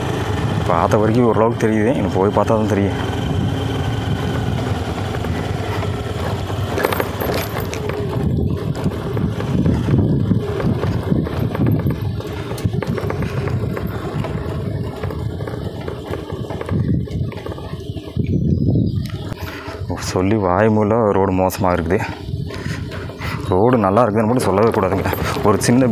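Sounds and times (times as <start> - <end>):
vehicle jolting over bumps: 0.0 - 20.2, 21.4 - 25.9
vehicle engine rumble: 0.0 - 25.9.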